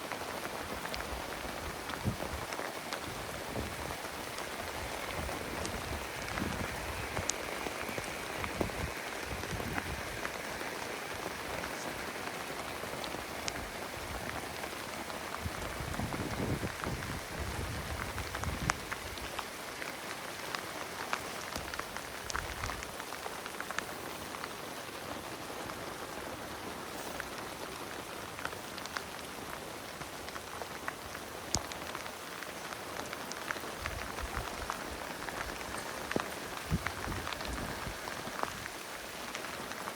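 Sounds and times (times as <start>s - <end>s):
raindrops ticking: 0.0s - 39.9s
steady rain falling: 0.0s - 39.9s.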